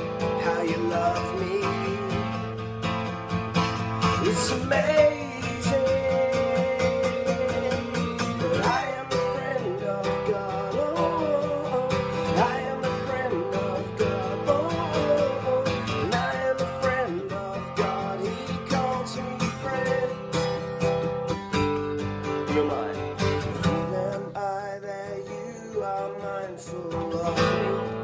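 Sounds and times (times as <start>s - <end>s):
person singing: 0.0s - 2.6s, 4.0s - 20.6s, 22.4s - 28.0s
strummed acoustic guitar: 0.0s - 28.0s.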